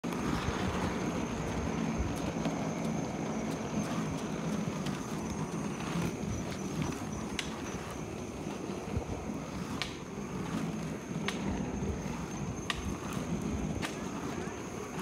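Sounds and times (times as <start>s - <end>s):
wheels rolling over rough asphalt: 0.0s - 15.0s.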